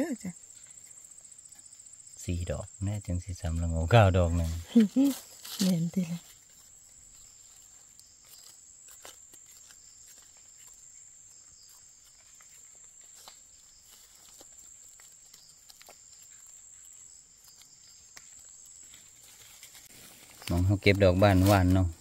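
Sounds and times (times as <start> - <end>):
high insect drone: 0.0 - 22.0
knife scraping in soil: 4.1 - 22.0.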